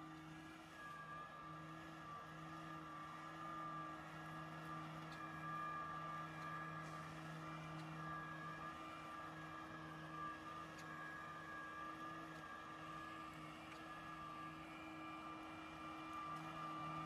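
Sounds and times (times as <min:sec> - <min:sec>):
robotic lawn mower motors humming: 0:00.0 - 0:17.0.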